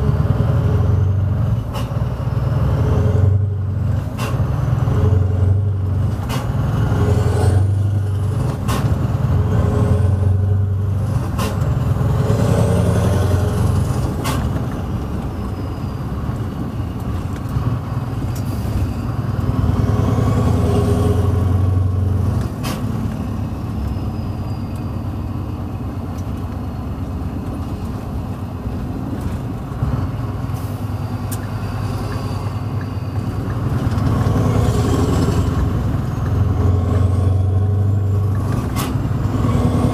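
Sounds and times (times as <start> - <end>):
diesel truck engine from cab: 0.0 - 39.9.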